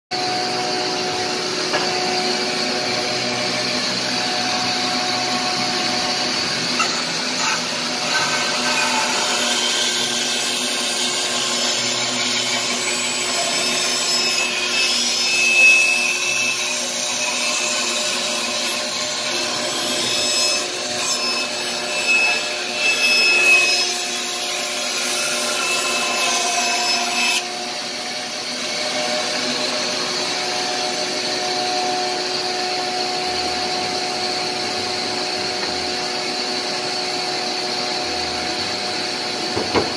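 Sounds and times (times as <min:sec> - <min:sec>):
bandsaw cutting wood: 0:00.2 - 0:33.0.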